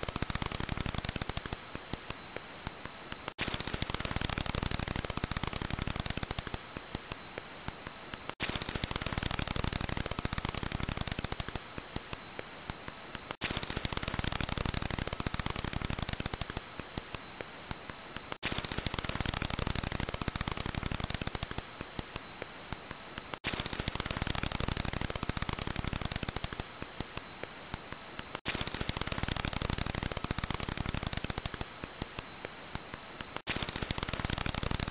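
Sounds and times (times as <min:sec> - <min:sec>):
bat echolocation clicks: 0:00.0 - 0:34.9.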